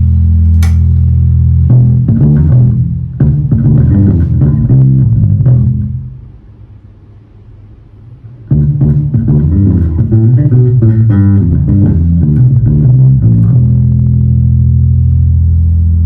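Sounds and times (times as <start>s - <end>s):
electric bass guitar notes: 0.0s - 6.8s, 7.4s - 16.0s.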